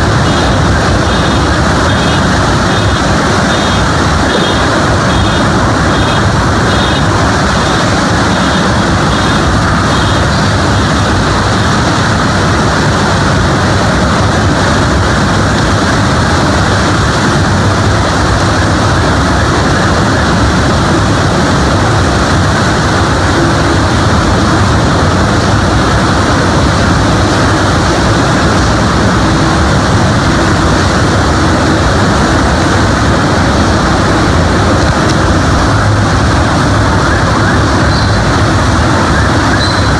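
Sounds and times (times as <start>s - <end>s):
driving rain: 0.0s - 39.9s
strong wind: 0.0s - 39.9s.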